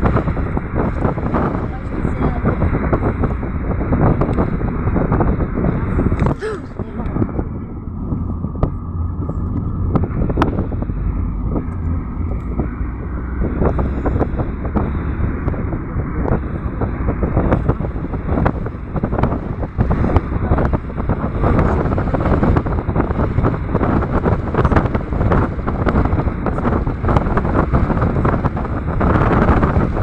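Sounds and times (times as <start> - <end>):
wind buffeting the microphone: 0.0 - 30.0.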